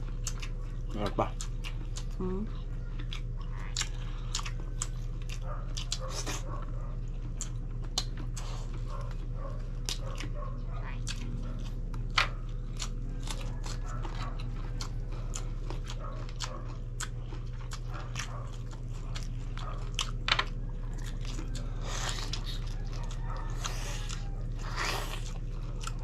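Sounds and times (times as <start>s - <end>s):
people eating with wet smacks: 0.0s - 2.2s, 2.8s - 10.4s, 11.0s - 26.0s.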